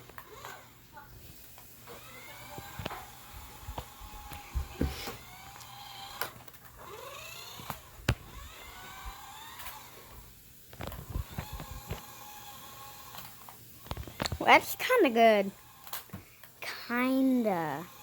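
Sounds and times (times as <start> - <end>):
toy car electric motor whining: 0.0 - 16.6, 17.2 - 18.0.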